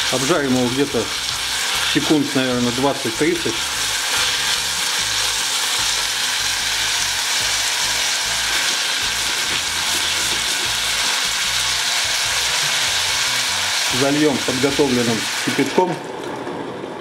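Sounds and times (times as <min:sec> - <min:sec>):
peas frying in oil: 0:00.0 - 0:16.4.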